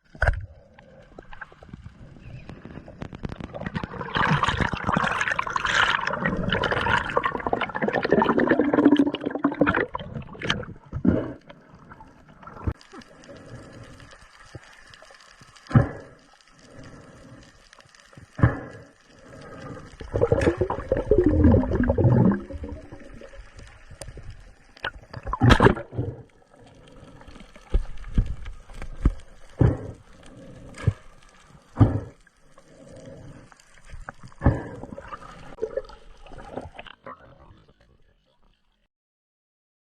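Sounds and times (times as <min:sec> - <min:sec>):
underwater bubbling gurgles: 0:00.0 - 0:38.1.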